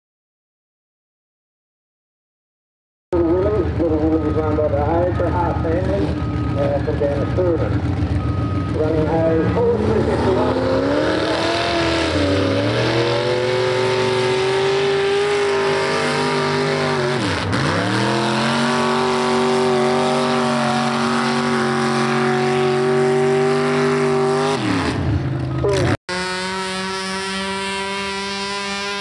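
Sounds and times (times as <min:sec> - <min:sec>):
tractor engine at high revs: 0:03.2 - 0:29.0.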